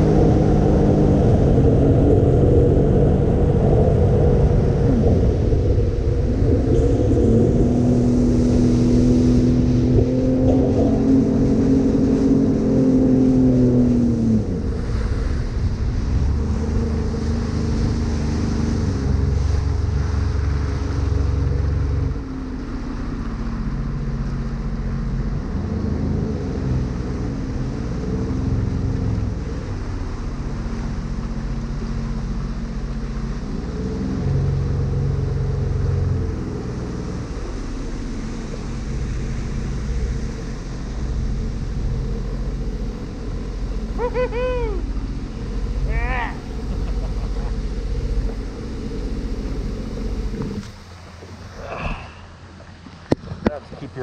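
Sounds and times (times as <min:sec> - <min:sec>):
watercraft engine droning: 0:00.0 - 0:54.0
wind on microphone: 0:00.0 - 0:54.0.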